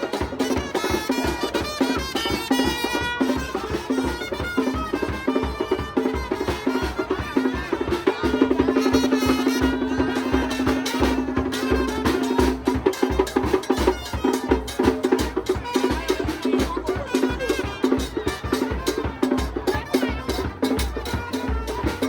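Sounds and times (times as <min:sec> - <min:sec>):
music with driving drum beat: 0:00.0 - 0:22.0.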